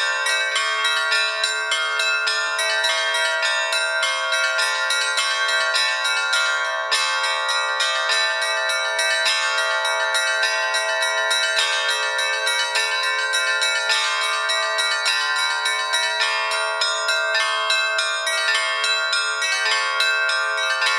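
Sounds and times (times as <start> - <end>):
bells ringing: 0.0 - 20.9.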